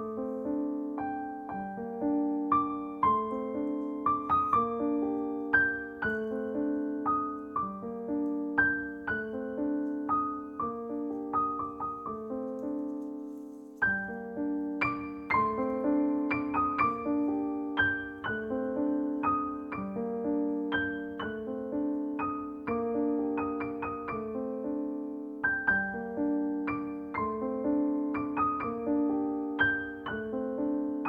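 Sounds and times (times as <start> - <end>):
gentle piano music: 0.0 - 31.0.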